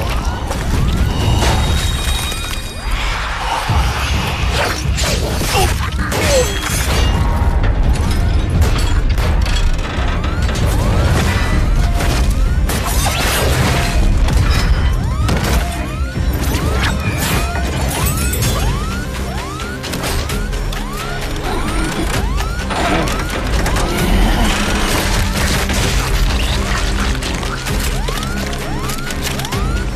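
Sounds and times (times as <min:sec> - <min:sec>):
action score music: 0:00.0 - 0:29.9.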